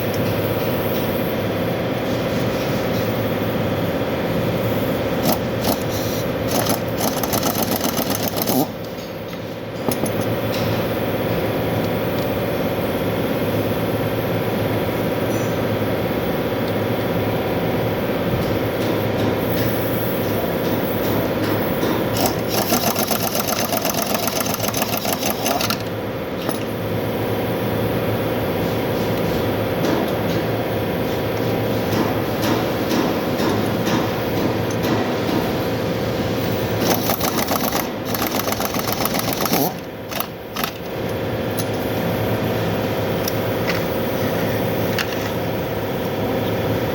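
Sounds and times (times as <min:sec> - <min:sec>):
machinery humming: 0:00.0 - 0:46.9.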